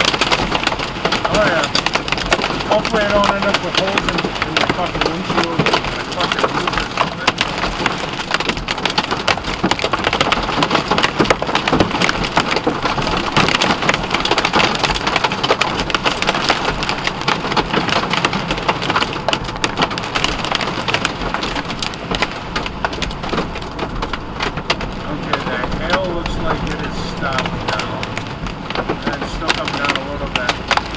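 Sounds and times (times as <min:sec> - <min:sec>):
rain and hail pelting vehicle roof: 0:00.0 - 0:30.9.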